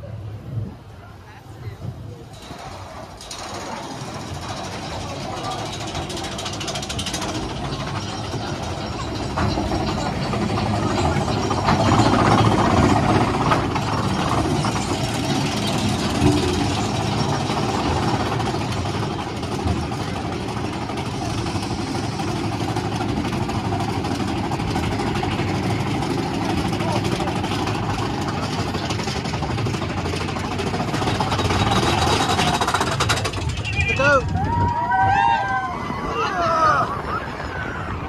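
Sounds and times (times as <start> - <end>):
roller coaster cars rolling on track: 0.0 - 38.0.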